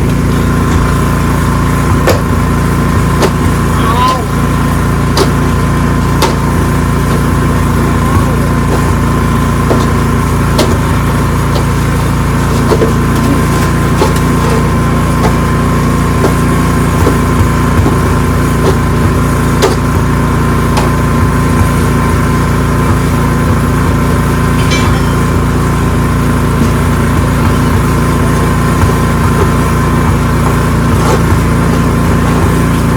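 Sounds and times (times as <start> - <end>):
snowblower engine running: 0.0 - 32.9.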